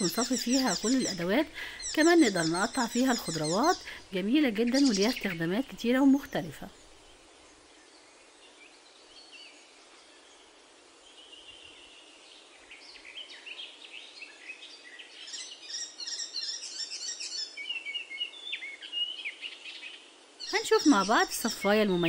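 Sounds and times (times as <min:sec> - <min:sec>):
small birds chirping: 0:00.0 - 0:22.0
steady background hiss: 0:00.0 - 0:22.0.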